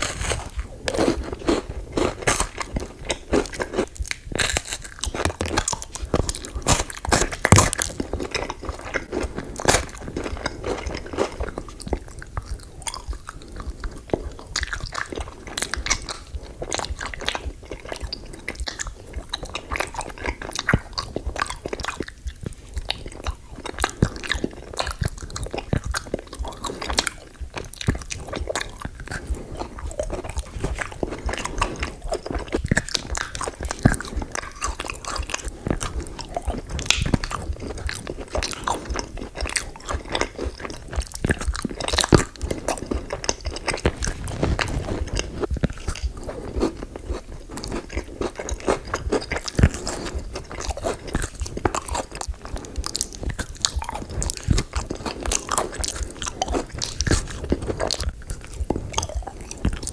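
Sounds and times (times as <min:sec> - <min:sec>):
crunchy sweets being chewed: 0:00.0 - 0:59.9.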